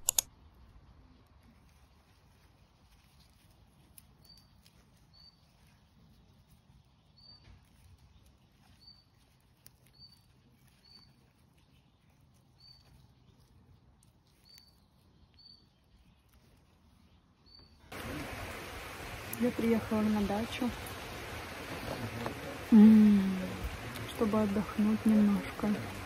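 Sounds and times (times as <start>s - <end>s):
hands rustling leaves: 0.0s - 26.0s
small bird chirping: 1.7s - 26.0s.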